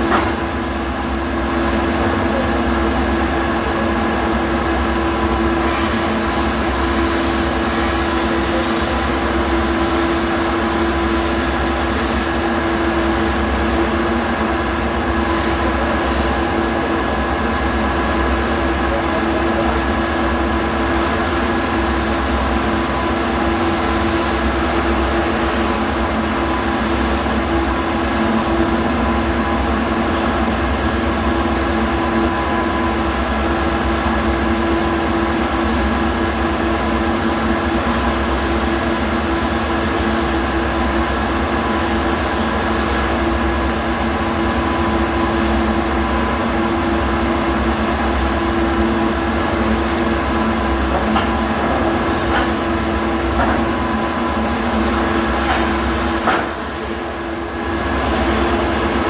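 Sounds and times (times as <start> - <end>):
mechanical hum with low drone: 0.0 - 59.0.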